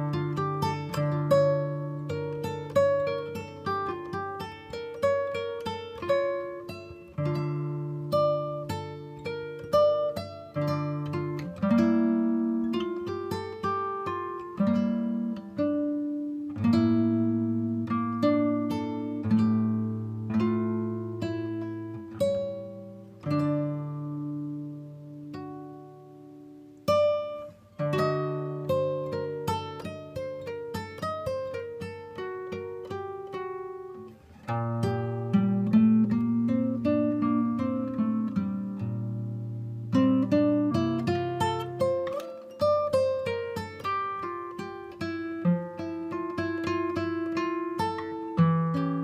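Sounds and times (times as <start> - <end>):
acoustic guitar chords: 0.0 - 49.0.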